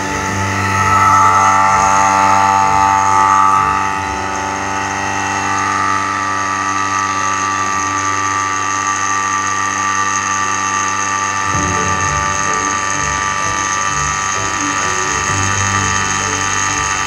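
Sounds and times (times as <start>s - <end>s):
vacuum pump humming: 0.0s - 17.0s.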